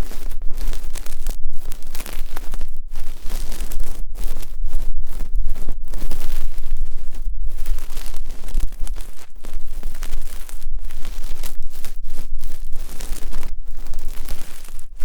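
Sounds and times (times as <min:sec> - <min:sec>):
close scratching and rubbing: 0:00.0 - 0:15.0.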